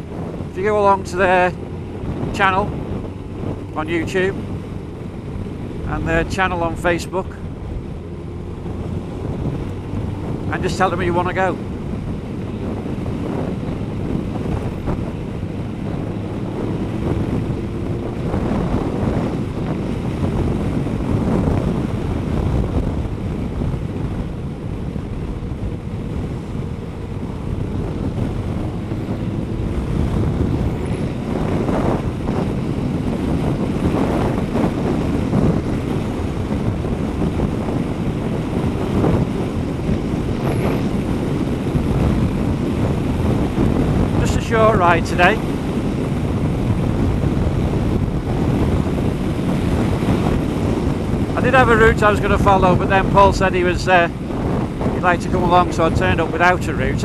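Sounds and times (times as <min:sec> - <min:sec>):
motorcycle engine: 0:00.0 - 0:56.0
wind buffeting microphone: 0:00.0 - 0:57.0.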